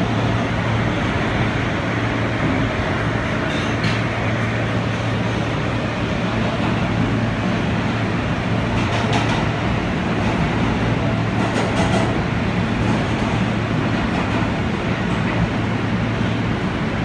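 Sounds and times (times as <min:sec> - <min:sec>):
subway train rail noise: 0:00.0 - 0:17.0.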